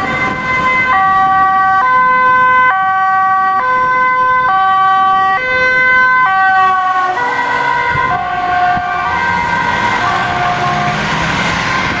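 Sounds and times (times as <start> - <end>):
ambulance two-tone siren: 0.0 - 12.0
vehicle running noise: 0.0 - 12.0.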